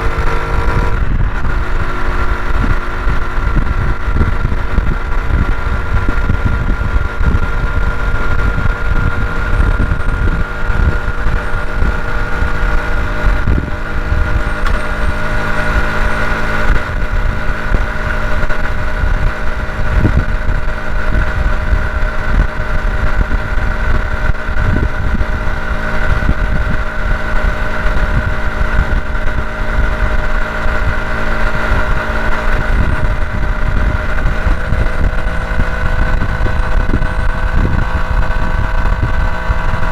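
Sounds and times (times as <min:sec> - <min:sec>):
motorcycle engine cruising: 0:00.0 - 0:39.9
wind buffeting microphone: 0:00.0 - 0:39.9.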